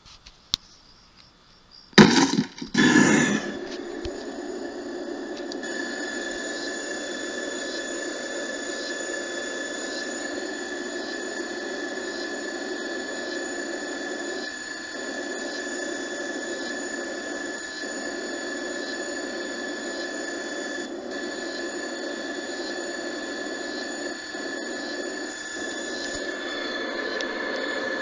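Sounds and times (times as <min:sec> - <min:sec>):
electronic hum with high whine: 0:00.0 - 0:28.0.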